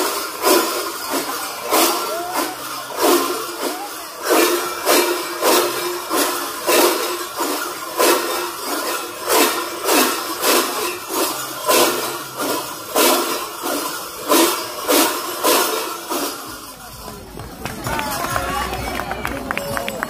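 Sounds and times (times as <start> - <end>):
large cowbells clanging in unison: 0.0 - 20.0.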